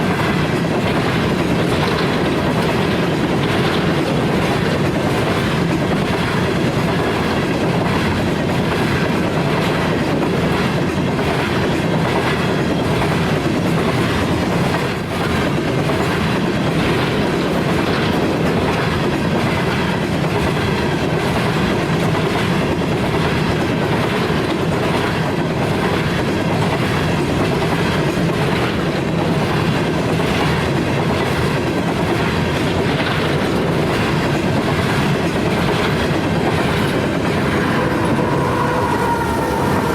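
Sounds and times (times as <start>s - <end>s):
train wheels clicking on rail joints: 0.0s - 39.9s.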